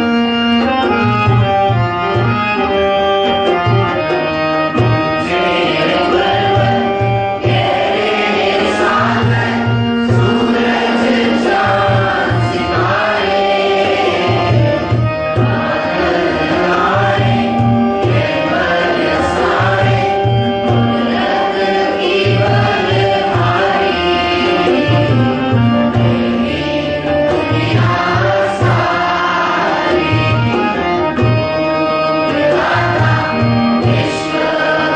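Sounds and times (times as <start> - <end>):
reed organ chords: 0.0 - 34.9
voices singing prayer song: 5.1 - 31.0, 32.3 - 34.9.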